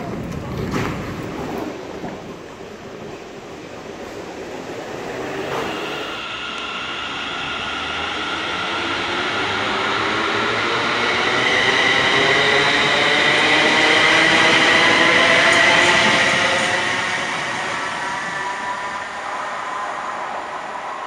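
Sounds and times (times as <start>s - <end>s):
electric train whine and rolling: 0.0s - 21.0s.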